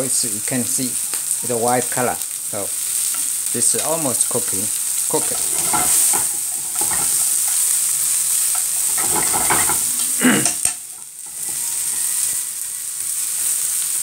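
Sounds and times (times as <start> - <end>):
prawns sizzling in a frying pan: 0.0 - 14.0.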